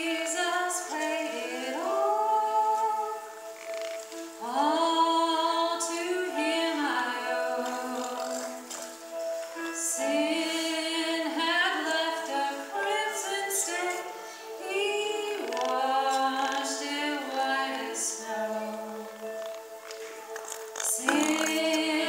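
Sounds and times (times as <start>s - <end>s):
choir singing a hymn: 0.0s - 20.2s, 20.8s - 22.0s.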